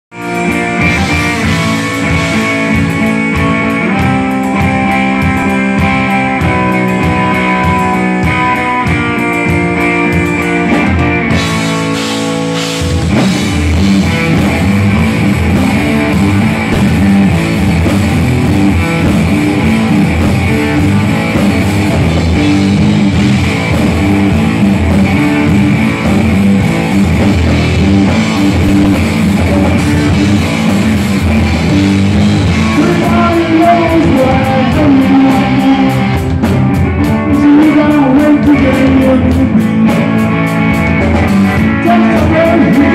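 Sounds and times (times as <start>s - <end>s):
electric guitar: 0.1s - 42.9s
hard rock band playing: 0.1s - 42.9s.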